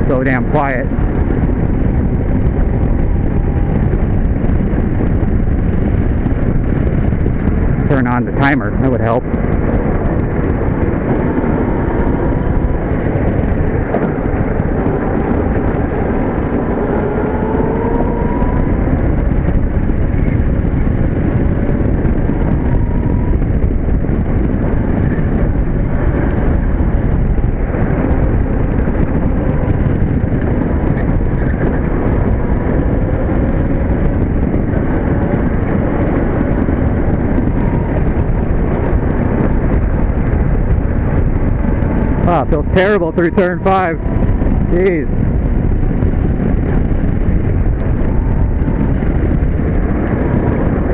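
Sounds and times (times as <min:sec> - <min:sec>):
rolling rumble: 0:00.0 - 0:50.9
wind: 0:00.0 - 0:50.9.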